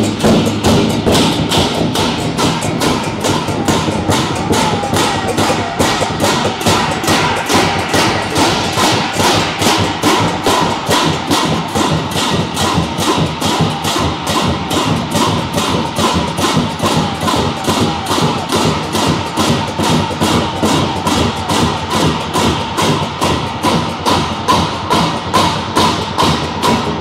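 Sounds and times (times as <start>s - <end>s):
barrel drum beating: 0.0s - 27.0s
hand cymbals clashing: 0.0s - 27.0s.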